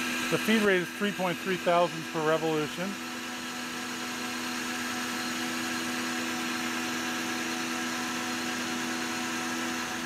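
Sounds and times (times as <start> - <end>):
metal lathe cutting: 0.0 - 10.0.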